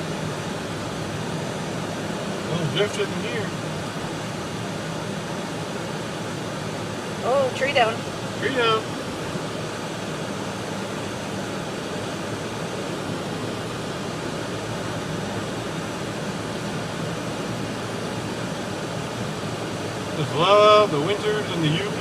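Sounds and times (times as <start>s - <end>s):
engine and road hum: 0.0s - 22.0s
heater fan: 0.0s - 22.0s.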